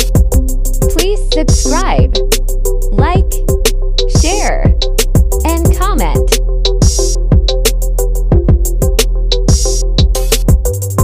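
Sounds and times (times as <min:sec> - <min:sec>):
bass and sustained chords: 0:00.0 - 0:11.0
electronic drum beat: 0:00.0 - 0:11.0.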